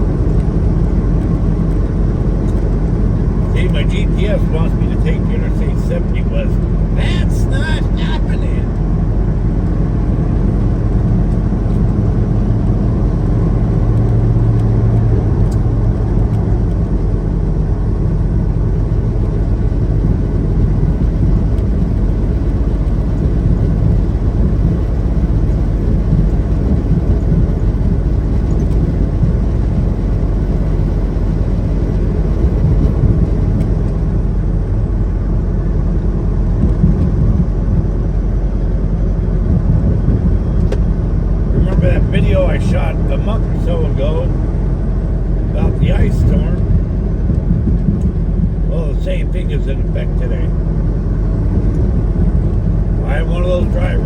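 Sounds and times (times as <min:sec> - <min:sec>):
road and tyre noise: 0:00.0 - 0:54.0
truck engine drone: 0:00.0 - 0:54.0.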